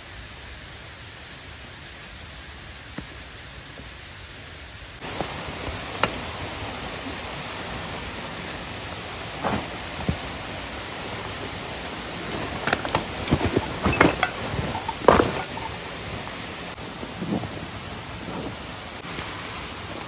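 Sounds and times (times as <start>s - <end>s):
stream and waterfall rushing: 0.0s - 20.0s.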